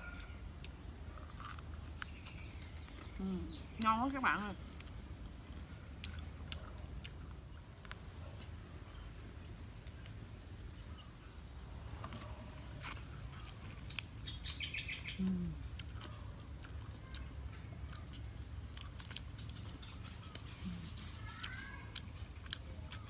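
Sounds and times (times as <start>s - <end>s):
crunching and chewing: 0.0s - 23.0s
bird chirping: 1.4s - 6.3s, 7.2s - 16.2s, 17.0s - 23.0s.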